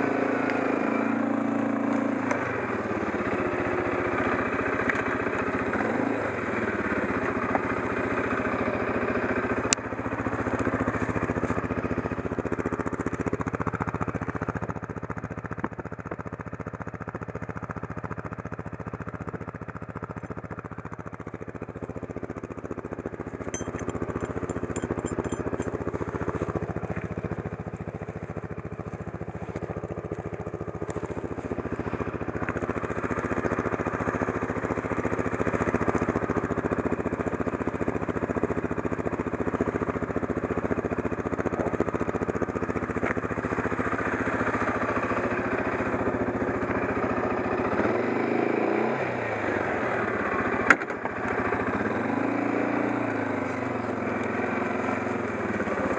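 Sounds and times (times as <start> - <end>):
quad engine idling: 0.0 - 55.9.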